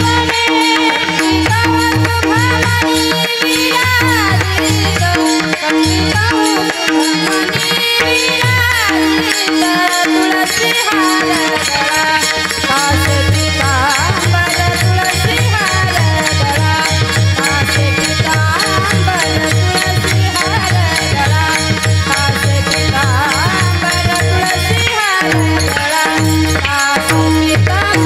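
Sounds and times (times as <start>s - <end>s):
harmonium tone: 0.0s - 28.0s
person singing: 0.0s - 28.0s.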